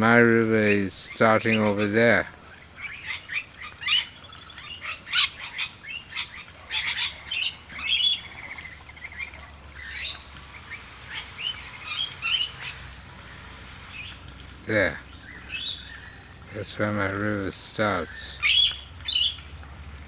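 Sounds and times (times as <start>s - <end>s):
flock of birds chirping and squawking: 0.0s - 20.0s.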